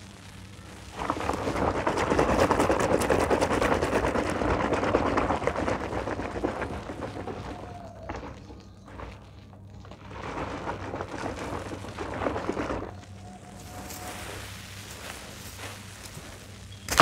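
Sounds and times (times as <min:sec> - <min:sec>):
foam crackling: 0:00.0 - 0:17.0
hand sloshing soapy water: 0:00.9 - 0:17.0.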